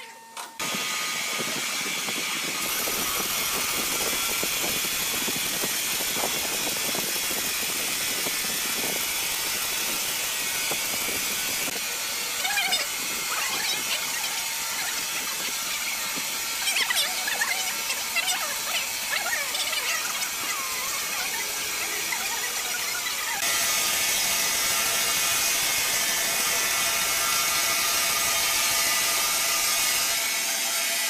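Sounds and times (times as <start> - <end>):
band saw cutting log: 0.6 - 31.0.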